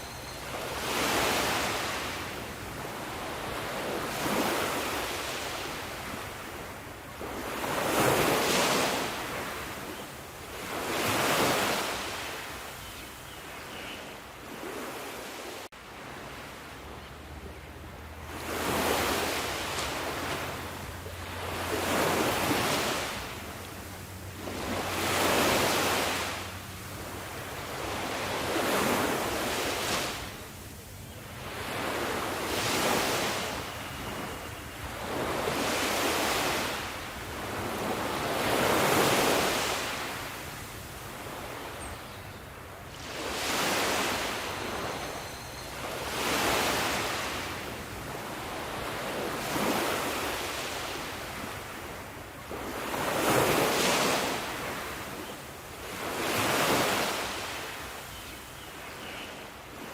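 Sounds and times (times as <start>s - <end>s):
ocean waves breaking: 0.0s - 12.8s, 14.4s - 58.1s.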